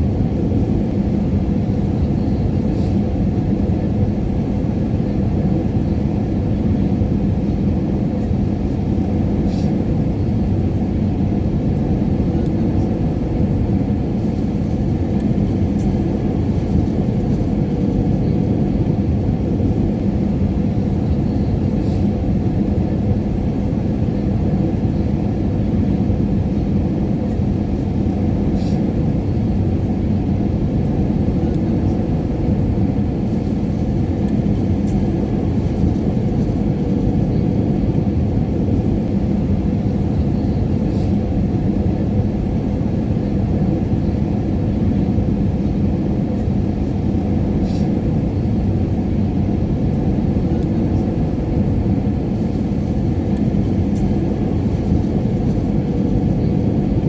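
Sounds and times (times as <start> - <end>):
airliner engine roar: 0.0 - 57.0.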